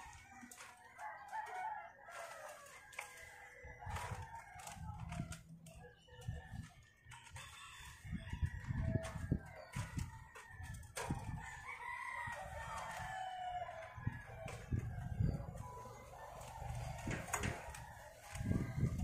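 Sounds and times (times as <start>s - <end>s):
rooster crowing: 0.0s - 5.2s, 7.3s - 19.0s.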